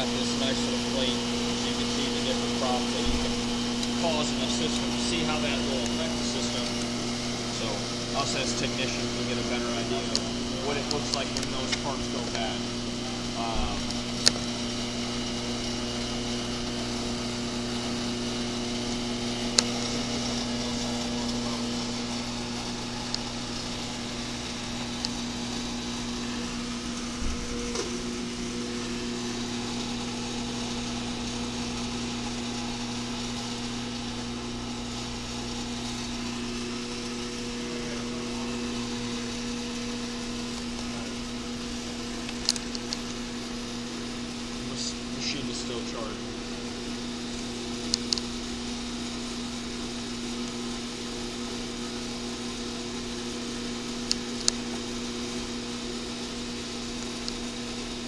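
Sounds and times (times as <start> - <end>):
electric motor hum: 0.0 - 58.0.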